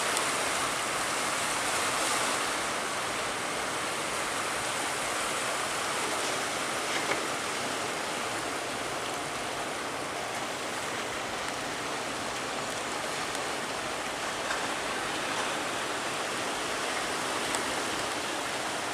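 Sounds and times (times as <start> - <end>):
sea waves and churning water: 0.0 - 18.9.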